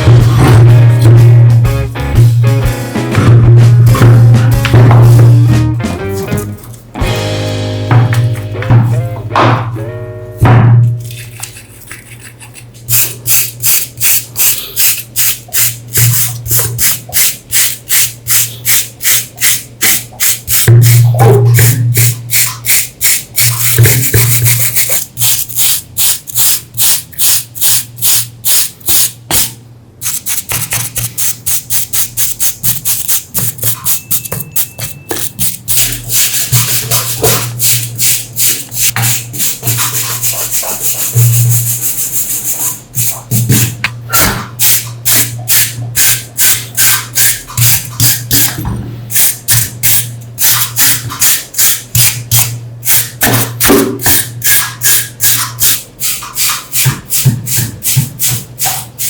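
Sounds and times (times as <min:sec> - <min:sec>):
rhythmic rubbing strokes: 0:00.0 - 0:10.0, 0:10.8 - 0:59.0.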